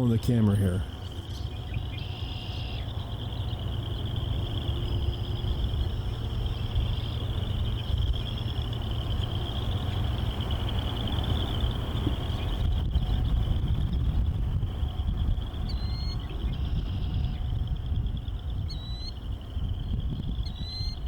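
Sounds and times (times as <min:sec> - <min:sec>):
distant freight train rumble: 0:00.0 - 0:21.0
high-pitched insect trill: 0:00.1 - 0:21.0.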